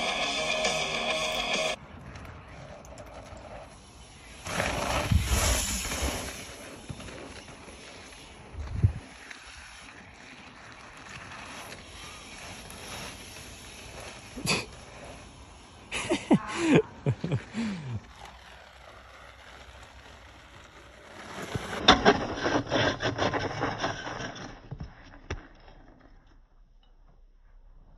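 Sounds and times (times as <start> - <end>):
bike crashing and scraping on snow: 0.0 - 16.4, 17.0 - 26.6.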